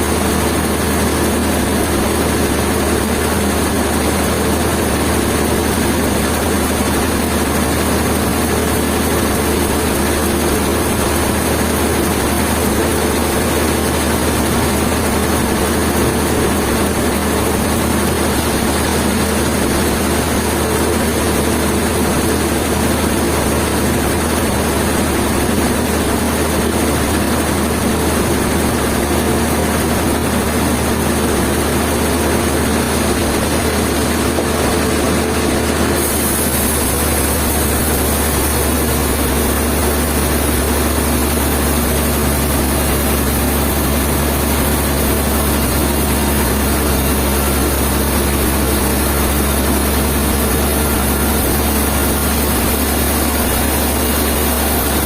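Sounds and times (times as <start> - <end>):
heavy engine droning: 0.0 - 55.0.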